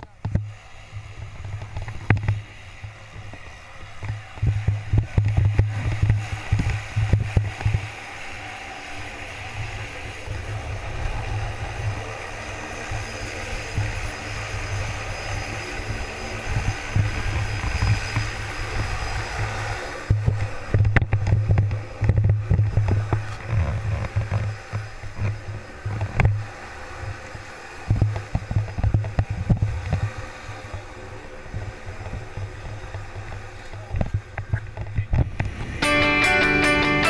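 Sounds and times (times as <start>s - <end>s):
wind buffeting microphone: 0.0s - 36.1s
light aircraft engine running: 0.0s - 37.0s.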